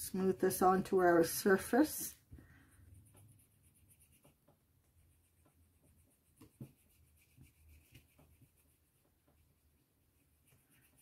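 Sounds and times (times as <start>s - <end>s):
brush rubbing over wax pastel: 0.0s - 11.0s.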